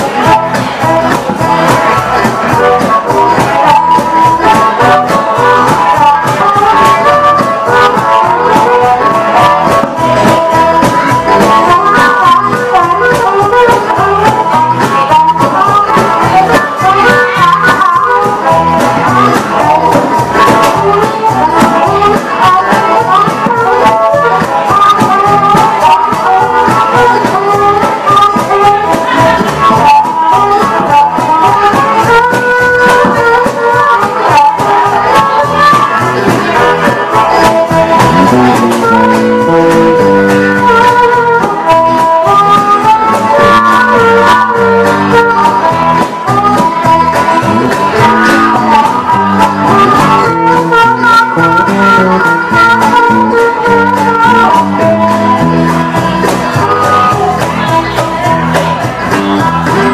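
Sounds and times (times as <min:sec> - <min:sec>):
melodic lead line of held notes: 0:00.0 - 0:59.9
strummed string instruments: 0:00.0 - 0:59.9.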